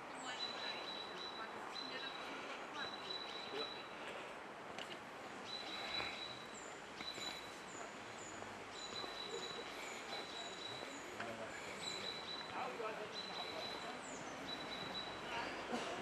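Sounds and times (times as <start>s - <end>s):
birds calling: 0.0s - 16.0s
outdoor background hiss: 0.0s - 16.0s.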